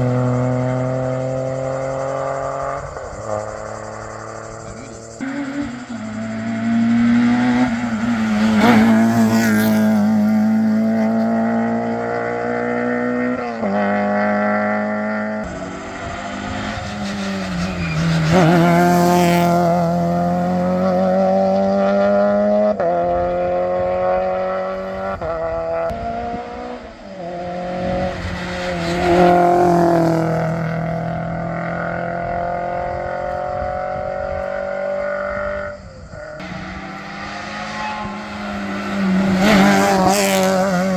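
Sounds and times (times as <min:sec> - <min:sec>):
rally car engine accelerating: 0:00.0 - 0:40.9.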